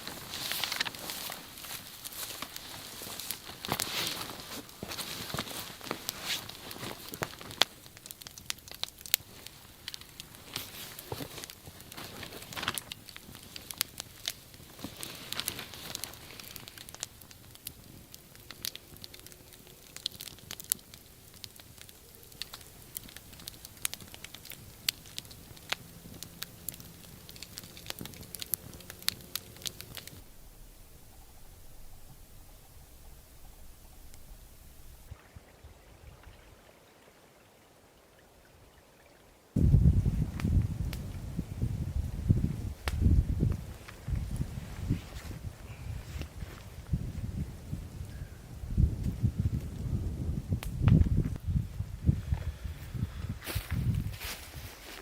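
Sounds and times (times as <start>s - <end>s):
campfire crackling and popping: 0.0s - 35.2s, 39.5s - 55.0s.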